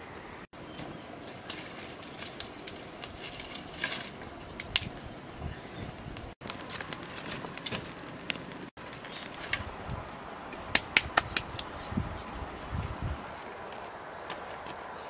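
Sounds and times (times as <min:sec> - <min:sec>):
wood fire crackling and popping: 0:00.8 - 0:13.8.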